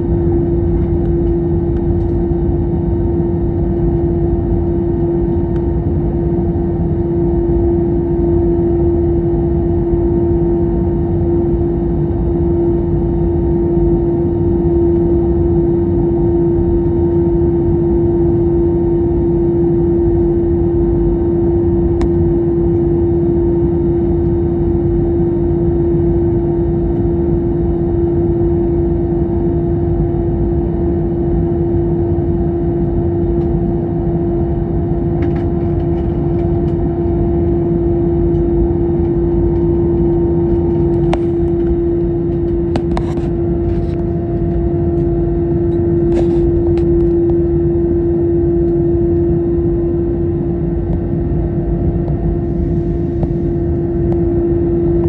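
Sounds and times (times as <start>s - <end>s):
airliner cabin engine drone: 0.0s - 55.0s
steady hum: 0.0s - 55.0s.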